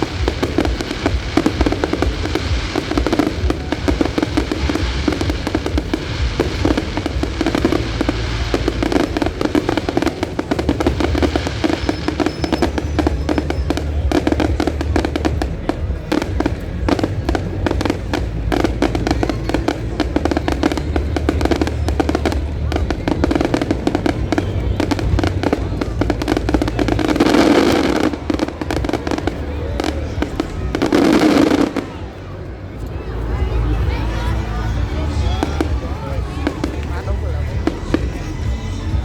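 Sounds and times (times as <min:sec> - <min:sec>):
fireworks bangs and crackles: 0:00.0 - 0:39.0
music playing: 0:00.0 - 0:39.0.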